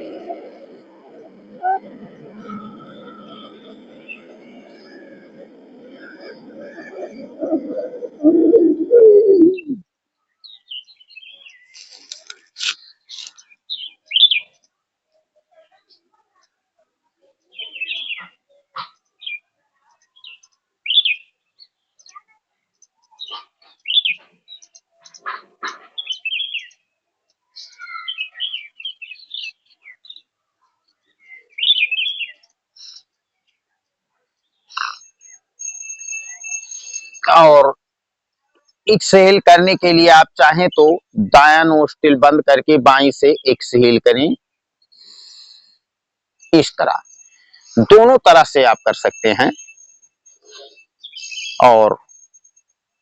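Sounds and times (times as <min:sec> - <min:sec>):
birds chirping: 0:00.0 - 0:14.8, 0:17.3 - 0:37.8, 0:38.4 - 0:53.0.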